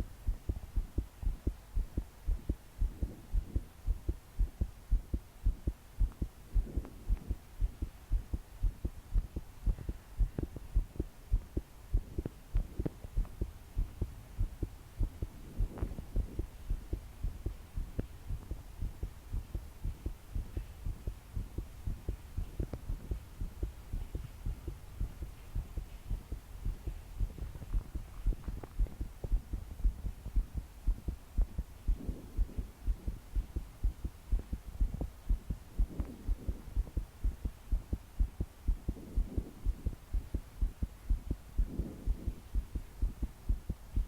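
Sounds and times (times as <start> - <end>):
fast pounding heartbeat: 0.0 - 44.0.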